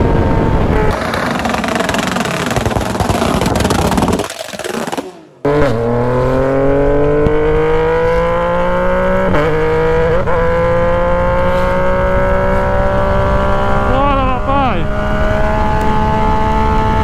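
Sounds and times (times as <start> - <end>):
motorcycle accelerating hard: 0.0 - 17.0.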